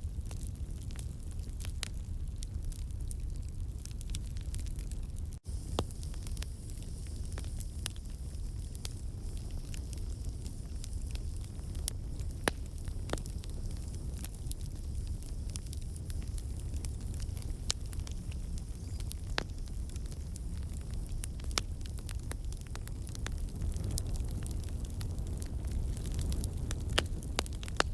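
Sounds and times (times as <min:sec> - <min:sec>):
campfire crackling: 0:00.0 - 0:27.9
sharp fire pops: 0:00.2 - 0:27.9.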